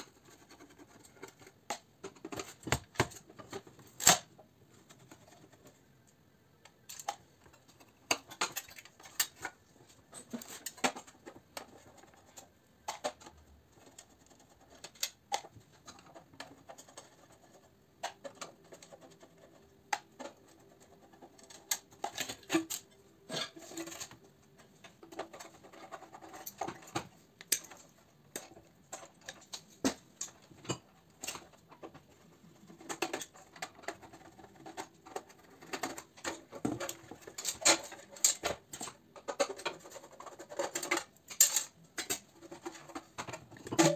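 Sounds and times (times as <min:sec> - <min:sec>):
metal clicks and scrapes: 0:06.6 - 0:43.9.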